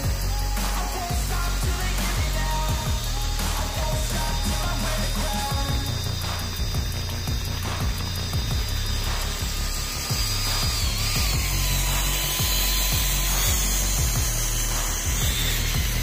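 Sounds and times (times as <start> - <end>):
electric gear motor whining: 0.0 - 16.0
music with heavy bass beat: 0.0 - 16.0.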